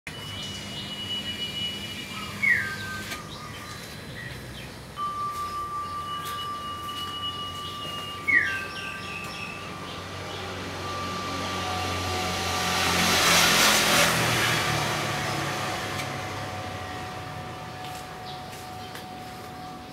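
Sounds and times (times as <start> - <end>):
steady high-pitched tones: 0.1 - 19.9.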